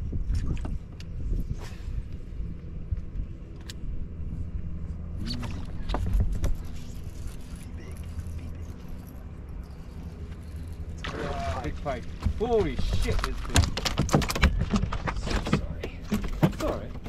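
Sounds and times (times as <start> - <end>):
boat engine hum and rumble: 0.0 - 17.0.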